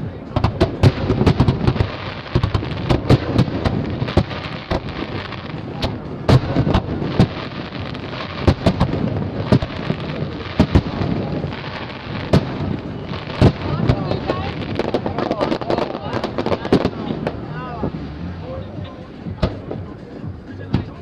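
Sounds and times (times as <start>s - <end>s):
firework bangs: 0.0s - 18.3s, 19.1s - 21.0s
continuous din: 0.0s - 21.0s.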